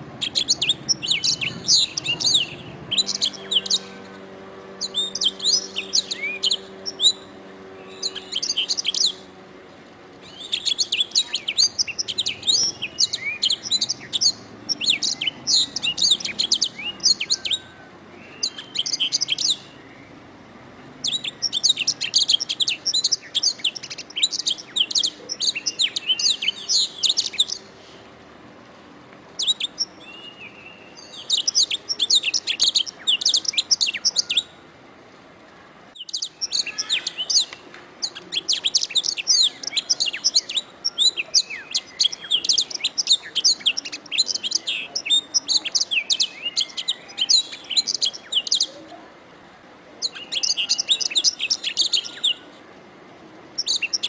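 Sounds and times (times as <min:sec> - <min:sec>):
canary singing: 0:00.0 - 0:27.8, 0:29.4 - 0:34.6, 0:35.9 - 0:48.9, 0:50.0 - 0:52.6, 0:53.5 - 0:54.0.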